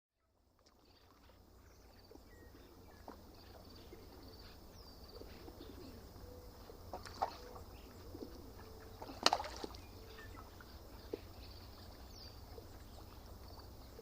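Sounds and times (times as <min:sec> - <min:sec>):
low wavering bird calls: 0:00.6 - 0:14.0.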